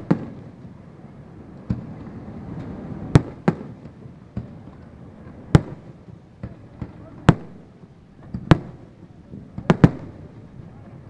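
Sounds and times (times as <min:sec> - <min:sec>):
faint fireworks pops: 0:00.0 - 0:11.0
fireworks bangs: 0:00.0 - 0:11.0.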